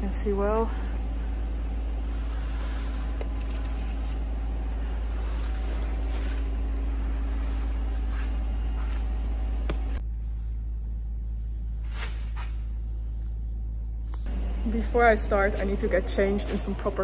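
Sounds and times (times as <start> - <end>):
low machine drone: 0.0 - 17.0.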